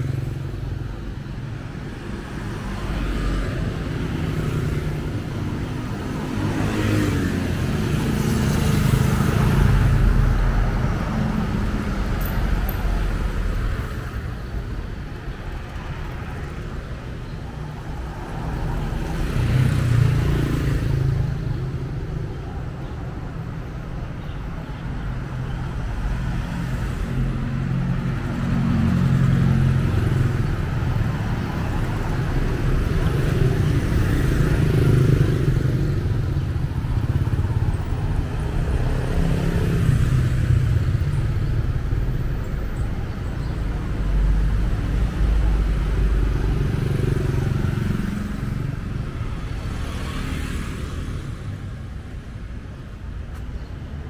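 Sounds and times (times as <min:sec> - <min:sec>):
scooters and cars passing: 0:00.0 - 0:54.0.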